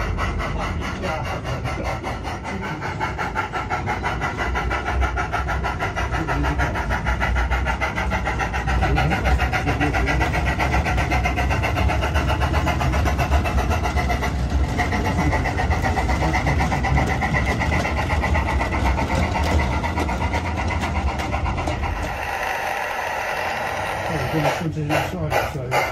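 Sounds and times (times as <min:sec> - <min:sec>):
steam locomotive exhaust beat: 0:00.0 - 0:25.9.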